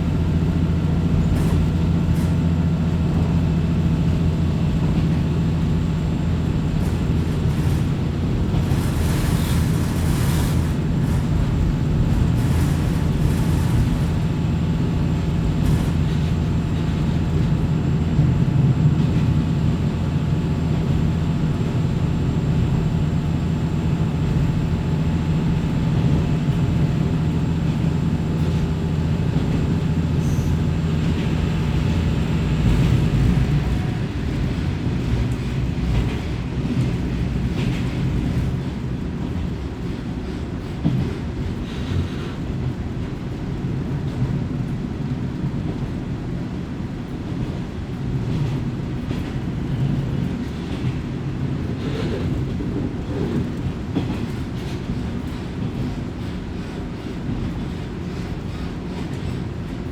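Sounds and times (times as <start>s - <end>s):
train wheel and track noise: 0.0s - 59.9s.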